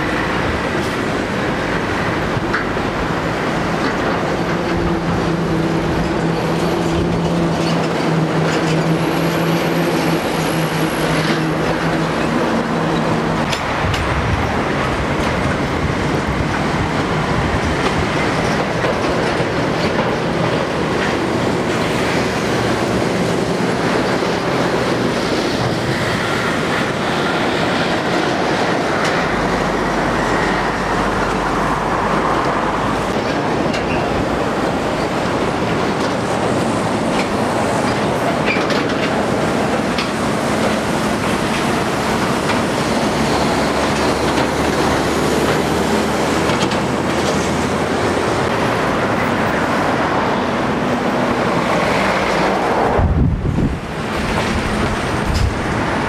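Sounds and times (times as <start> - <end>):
trucks passing on a road: 0.0 - 56.0.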